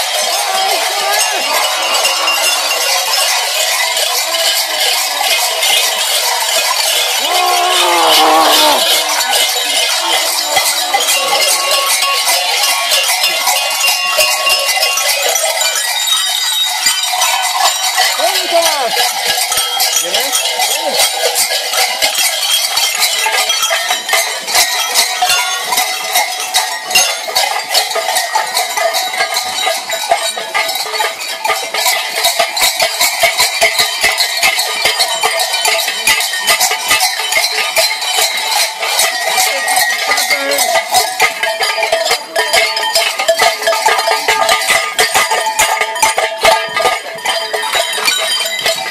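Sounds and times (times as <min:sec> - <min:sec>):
cowbells clanging: 0:00.0 - 0:48.9.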